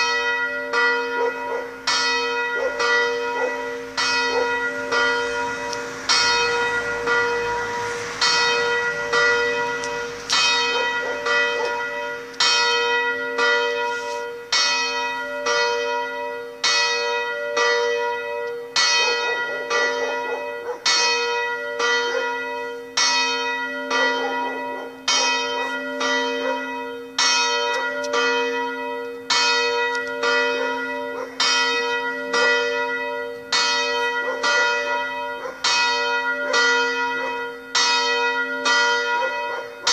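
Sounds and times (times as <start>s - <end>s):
church bells ringing: 0.0s - 39.9s
sustained bell hum: 0.0s - 39.9s.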